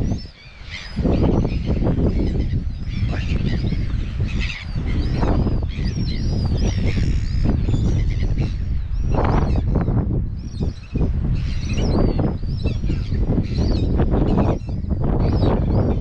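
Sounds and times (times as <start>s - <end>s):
chorus of bird calls: 0.0s - 16.0s
wind buffeting microphone: 0.0s - 16.0s.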